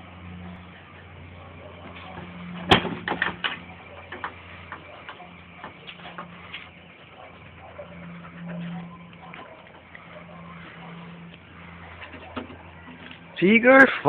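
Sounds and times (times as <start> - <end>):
low hum: 0.0 - 13.4.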